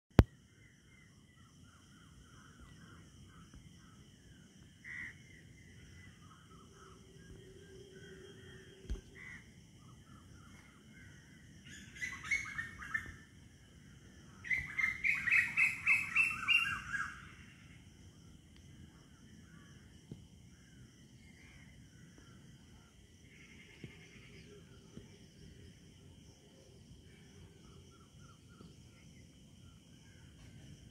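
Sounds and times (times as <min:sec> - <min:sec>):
steady high-pitched whine: 0:00.2 - 0:30.9.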